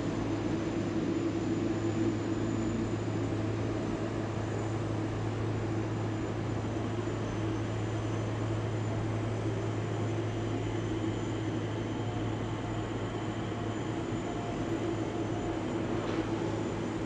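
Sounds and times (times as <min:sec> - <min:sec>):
distant jet engines taxiing: 0:00.0 - 0:17.0.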